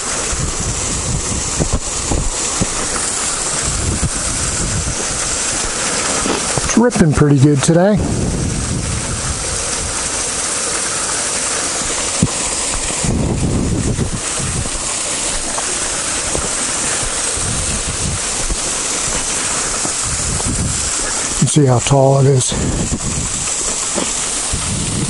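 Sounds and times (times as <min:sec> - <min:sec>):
wind rumble on microphone: 0:00.0 - 0:10.6, 0:11.8 - 0:25.0
waterfall rushing onto stones: 0:00.0 - 0:25.0.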